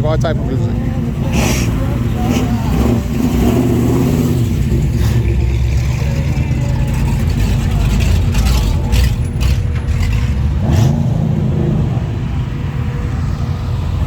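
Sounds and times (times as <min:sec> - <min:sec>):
car engines rumbling: 0:00.0 - 0:14.0
engine revving: 0:00.0 - 0:14.0.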